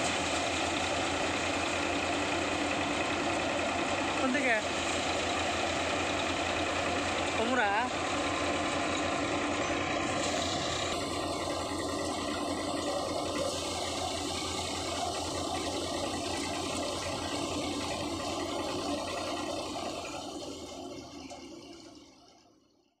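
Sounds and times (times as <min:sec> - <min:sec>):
threshing drum whirring: 0:00.0 - 0:22.0
tractor diesel engine: 0:00.0 - 0:22.9.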